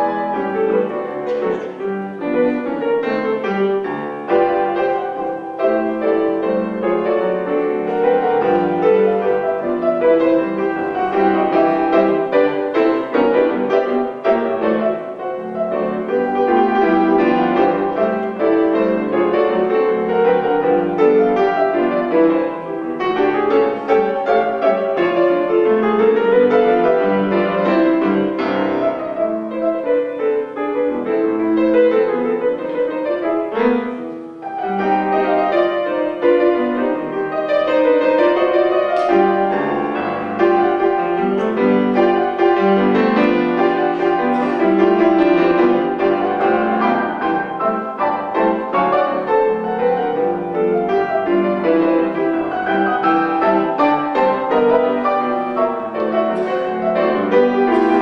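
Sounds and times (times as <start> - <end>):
ragtime piano piece: 0.0 - 58.0.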